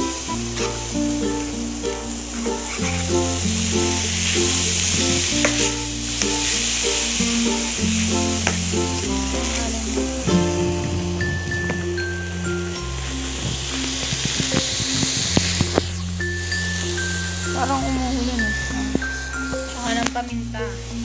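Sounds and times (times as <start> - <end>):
light tune with bass line: 0.0 - 21.0
meat sizzling in a frying pan: 0.1 - 11.2, 12.7 - 21.0.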